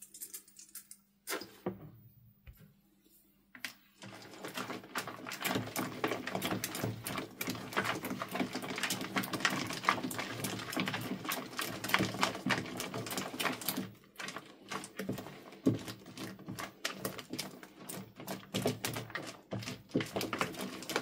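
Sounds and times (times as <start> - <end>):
spatula stirring slime with beads: 3.7 - 21.0.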